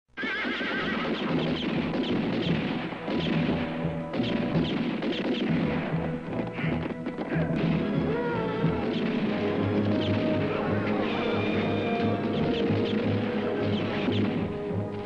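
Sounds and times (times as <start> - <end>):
film music: 0.4 - 15.0.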